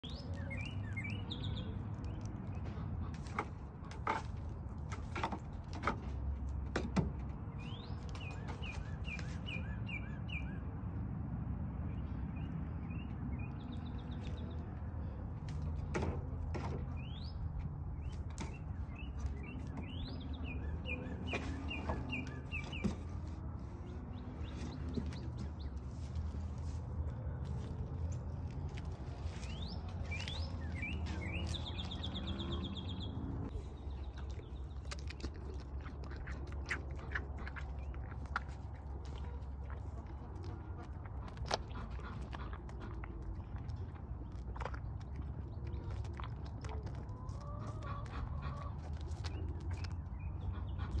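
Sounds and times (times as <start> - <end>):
small birds chirping: 0.0 - 5.4, 6.6 - 10.7, 11.9 - 51.0.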